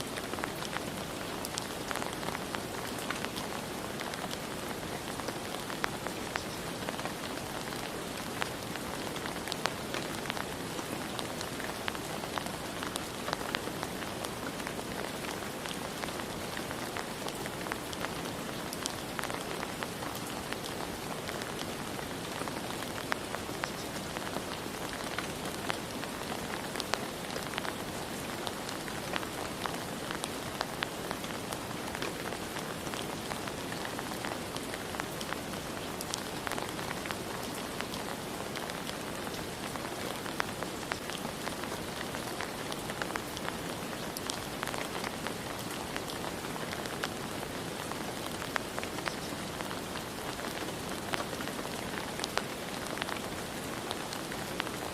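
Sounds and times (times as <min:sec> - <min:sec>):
steady rain: 0:00.0 - 0:54.9
raindrops ticking on a surface: 0:00.1 - 0:54.9.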